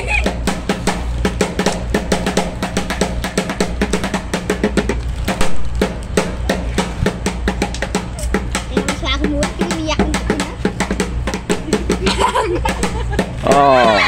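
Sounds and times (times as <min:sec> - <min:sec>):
rapid drum strikes: 0:00.0 - 0:14.0.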